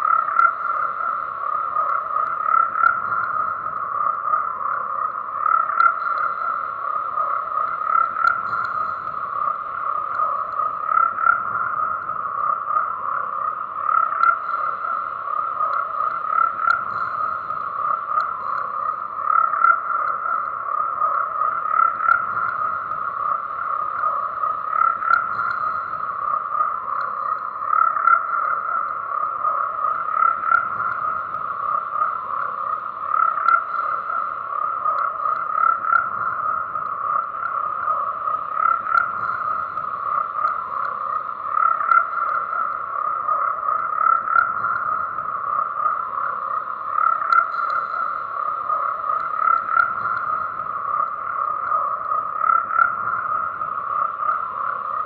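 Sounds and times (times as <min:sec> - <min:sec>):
frogs croaking chorus: 0:00.0 - 0:55.0.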